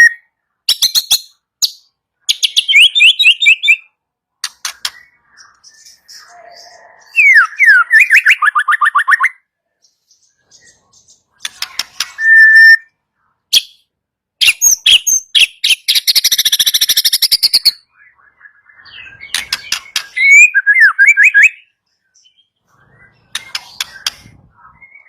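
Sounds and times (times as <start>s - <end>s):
bird singing: 0.0s - 25.0s.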